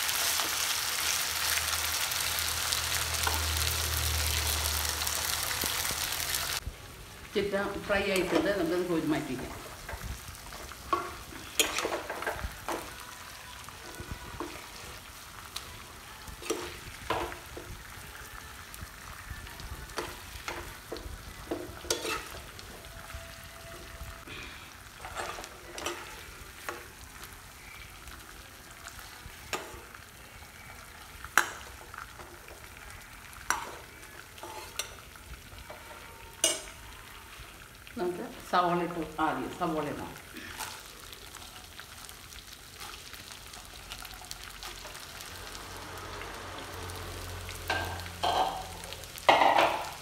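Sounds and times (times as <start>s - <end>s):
chicken sizzling in oil: 0.0s - 50.0s.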